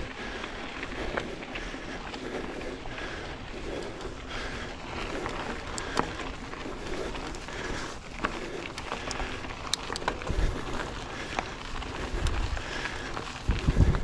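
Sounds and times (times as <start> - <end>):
bike clicks and rattles: 0.0 - 14.0
tyre and trail noise: 0.0 - 14.0.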